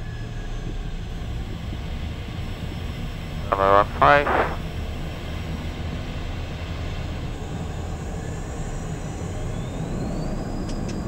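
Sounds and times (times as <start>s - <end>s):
jet engine rumble and hiss: 0.2s - 11.0s.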